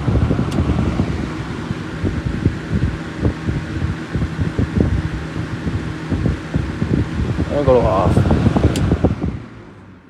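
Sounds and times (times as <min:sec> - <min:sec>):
box fan humming: 0:00.0 - 0:10.0.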